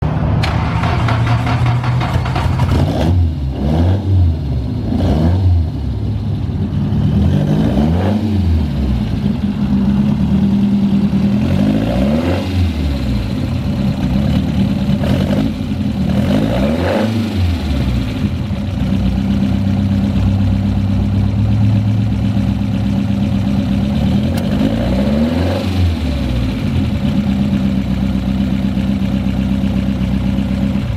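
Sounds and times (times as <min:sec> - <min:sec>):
race car engine revving: 0:00.1 - 0:06.0, 0:06.6 - 0:28.8.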